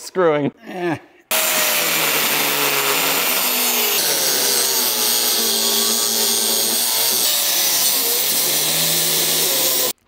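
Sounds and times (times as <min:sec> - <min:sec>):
power tool cutting: 0:01.3 - 0:10.0.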